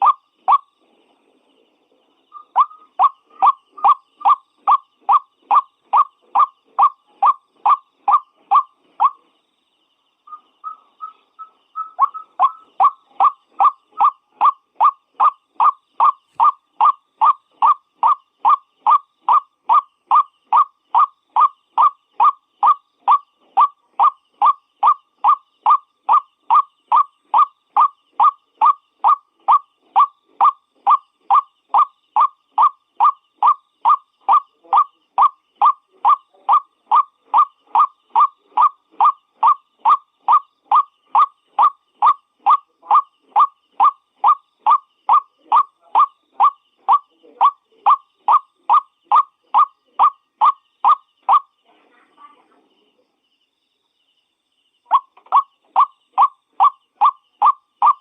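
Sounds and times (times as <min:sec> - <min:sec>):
waterhen calling: 0:02.4 - 0:09.2, 0:10.3 - 0:51.5, 0:54.9 - 0:58.0.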